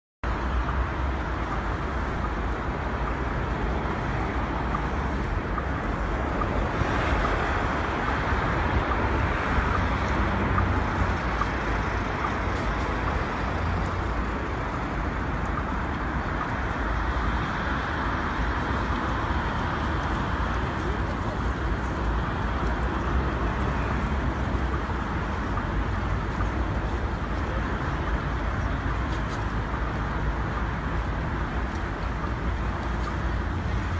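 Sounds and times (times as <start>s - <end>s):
city traffic noise: 0.2s - 33.9s.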